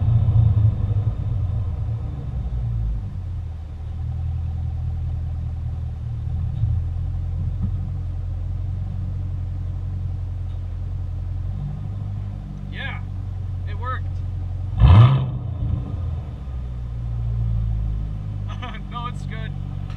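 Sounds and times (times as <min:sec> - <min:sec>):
car engine idling deep rumble: 0:00.0 - 0:19.9.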